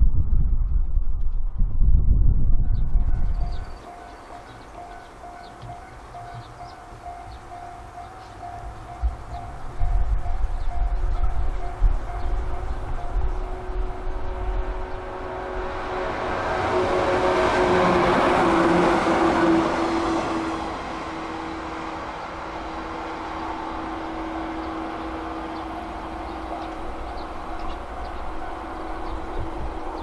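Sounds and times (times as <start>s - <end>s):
wheels running on rail: 2.9s - 30.0s
train motor whine: 3.4s - 30.0s.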